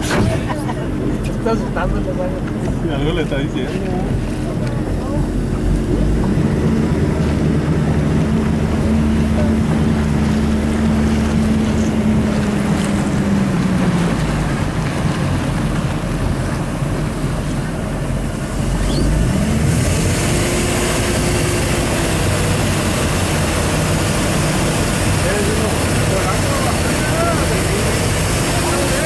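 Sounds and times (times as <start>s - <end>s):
motorboat engine running: 0.0s - 29.0s
rushing water: 0.0s - 29.0s.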